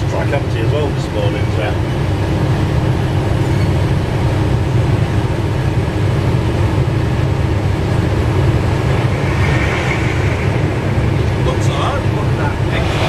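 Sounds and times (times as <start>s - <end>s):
diesel engine rumble: 0.0s - 13.0s
train passing: 0.0s - 13.0s.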